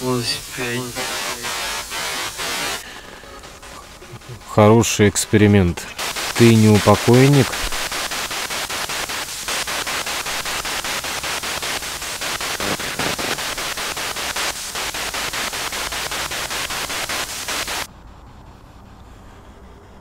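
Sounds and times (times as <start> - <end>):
radio fragments: 0.0 - 17.9
chopped radio static hiss: 0.0 - 19.2.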